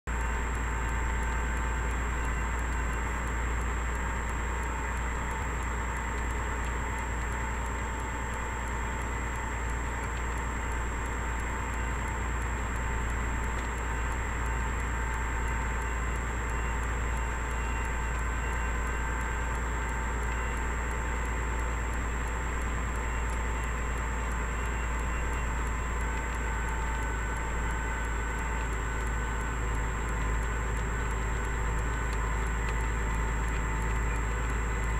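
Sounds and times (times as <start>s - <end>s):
high whine: 0.1s - 34.9s
truck engine and road rumble: 0.1s - 34.9s.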